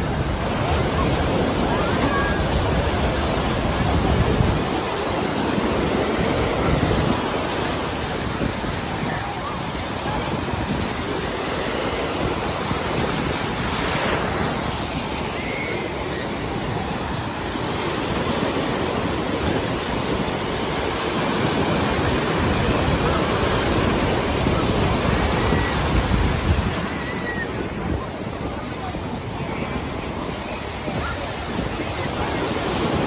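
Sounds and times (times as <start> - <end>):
ocean surf breaking: 0.0 - 33.0.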